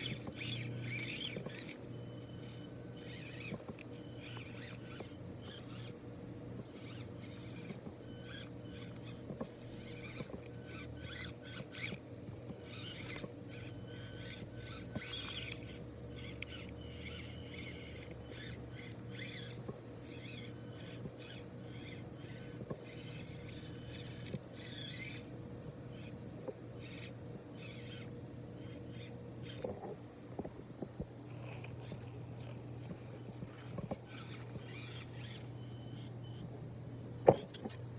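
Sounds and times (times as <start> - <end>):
birds chirping: 0.0 - 37.8
small electric motor and gears: 0.0 - 37.9.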